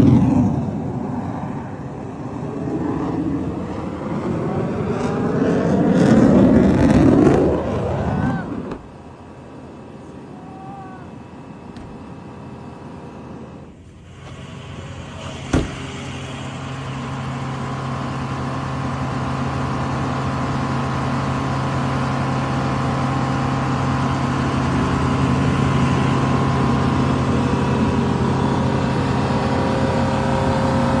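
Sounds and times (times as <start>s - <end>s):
engine drone with held tones: 0.0s - 31.0s.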